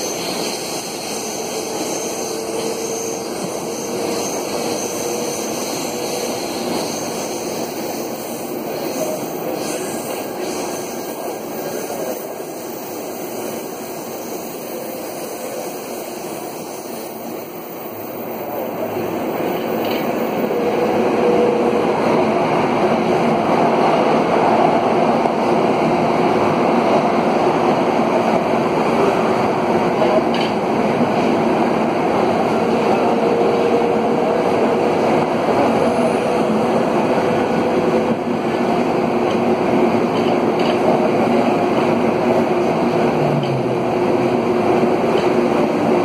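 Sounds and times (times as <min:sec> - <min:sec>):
metro train wheels rumbling on rail: 0:00.0 - 0:46.0.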